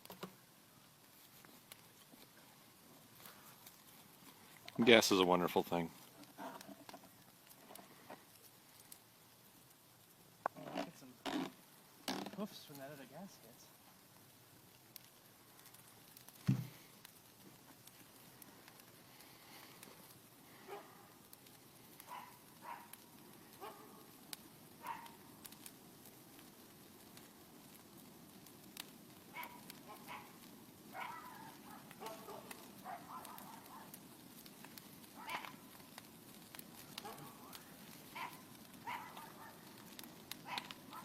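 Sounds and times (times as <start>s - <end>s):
bonfire crackling: 0.0s - 41.0s.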